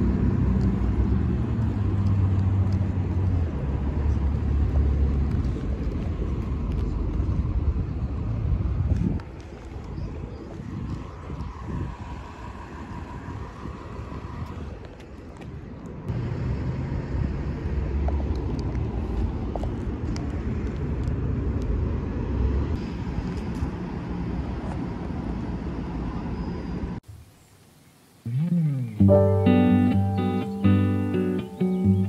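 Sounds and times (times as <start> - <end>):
road vehicle rumble: 0.0 - 27.1, 28.2 - 32.0.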